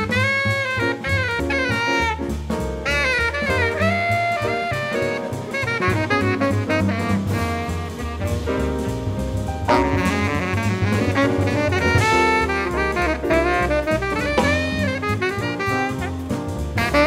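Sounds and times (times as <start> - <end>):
bass: 0.0 - 17.0
drums: 0.0 - 17.0
tenor saxophone: 0.0 - 17.0.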